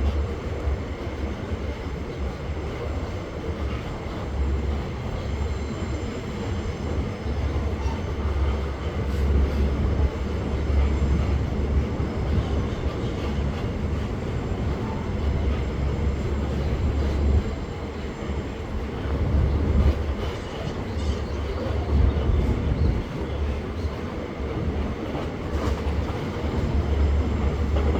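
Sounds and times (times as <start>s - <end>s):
freight train rolling past: 0.0s - 27.9s.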